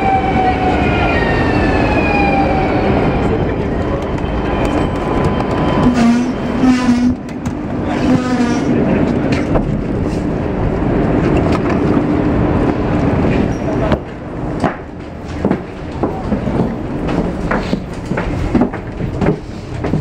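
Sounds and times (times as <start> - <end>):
passers-by voices: 0.0 - 18.3
train humming: 0.0 - 20.0.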